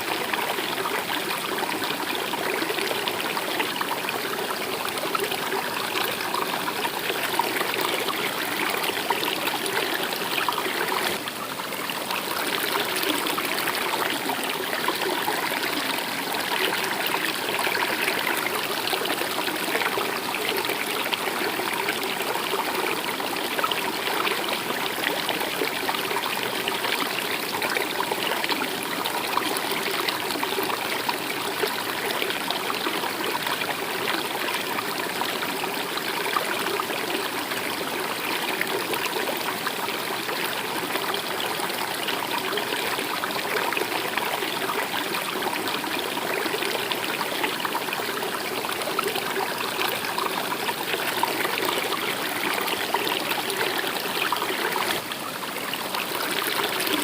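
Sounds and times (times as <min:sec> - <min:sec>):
stream water trickling over stones: 0:00.0 - 0:57.0.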